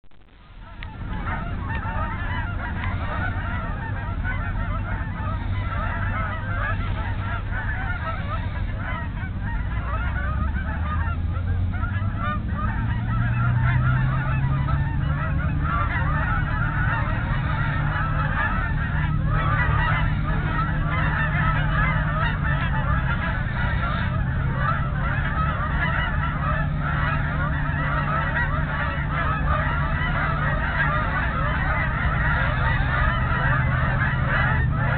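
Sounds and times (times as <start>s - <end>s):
low steady hum: 0.0s - 34.9s
geese honking: 0.3s - 34.9s.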